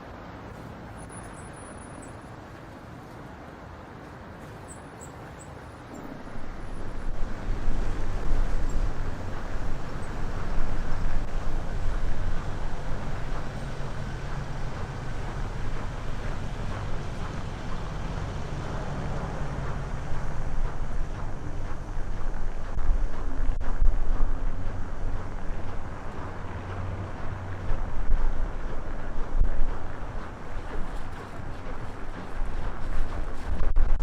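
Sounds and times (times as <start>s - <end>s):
wind buffeting microphone: 2.0s - 34.0s.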